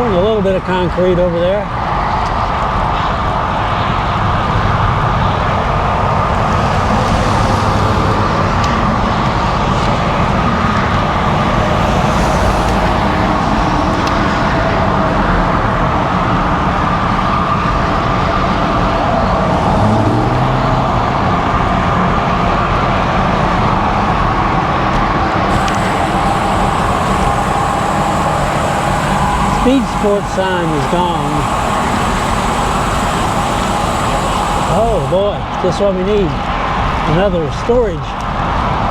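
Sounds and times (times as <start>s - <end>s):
cars and trucks passing: 0.0s - 38.9s
low traffic rumble: 0.0s - 38.9s.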